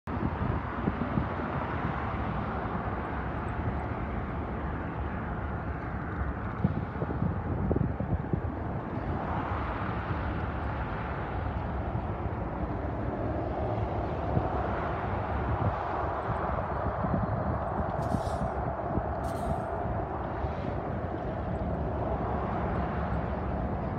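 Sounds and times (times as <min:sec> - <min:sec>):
low rumble of vehicle noise: 0:00.0 - 0:23.9.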